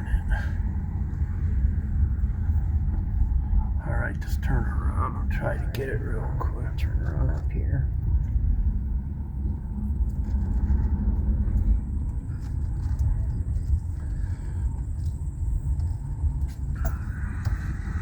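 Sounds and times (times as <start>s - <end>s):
car engine rumble: 0.0s - 18.0s
road noise inside car: 0.0s - 18.0s.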